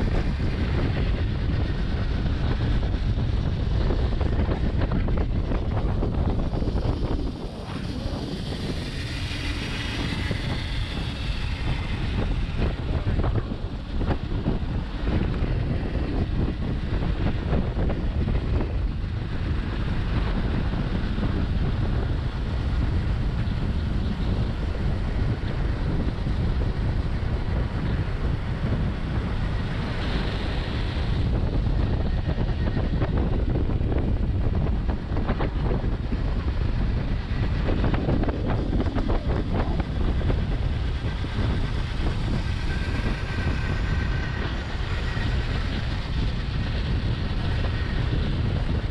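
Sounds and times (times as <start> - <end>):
motorcycle engine running: 0.0 - 48.9
wind rush on microphone: 0.0 - 48.9.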